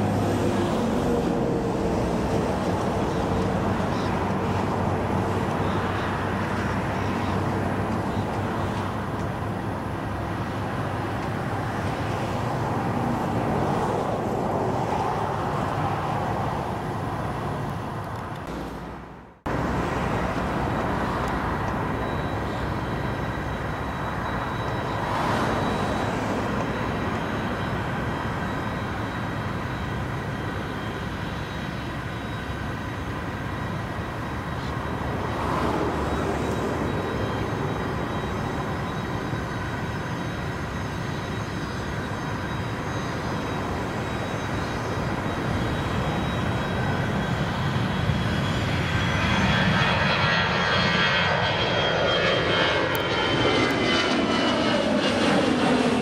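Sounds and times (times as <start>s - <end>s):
high jet engine whine: 0.0s - 56.0s
jet airliner roar: 0.0s - 56.0s.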